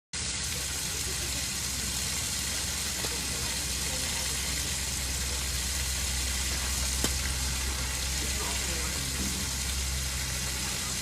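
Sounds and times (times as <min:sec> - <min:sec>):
rain hissing: 0:00.2 - 0:11.0
vehicle engine idling: 0:00.6 - 0:11.0.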